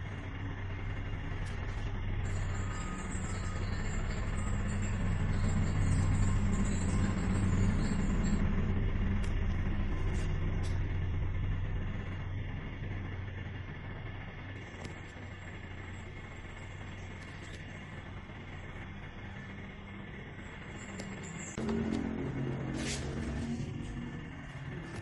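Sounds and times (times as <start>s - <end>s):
low mechanical rumble with hum: 0.0s - 25.0s.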